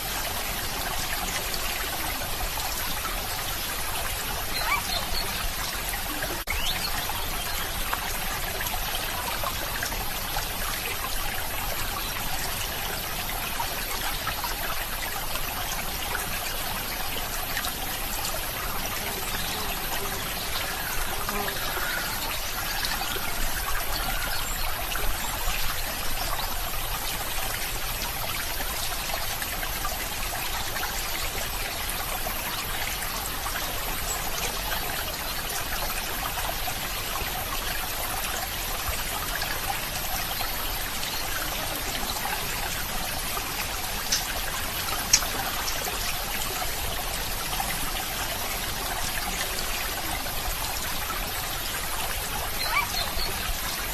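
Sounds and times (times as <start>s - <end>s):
stream water trickling: 0.0s - 53.9s.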